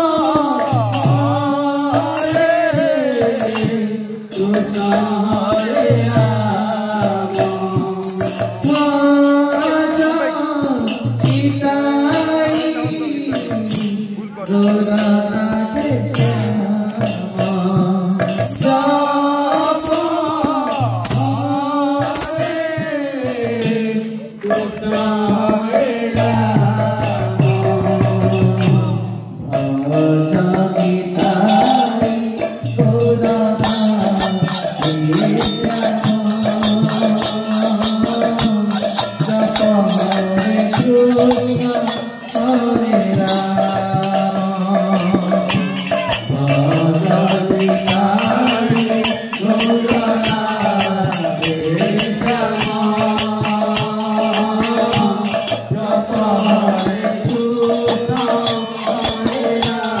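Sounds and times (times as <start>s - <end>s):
barrel drum: 0.0s - 60.0s
hand cymbals jingling: 0.0s - 60.0s
men singing a chant: 0.0s - 60.0s.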